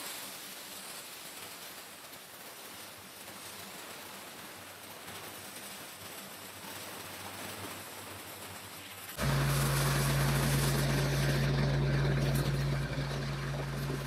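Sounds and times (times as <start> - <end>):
pressure washer spraying concrete: 0.0 - 14.0.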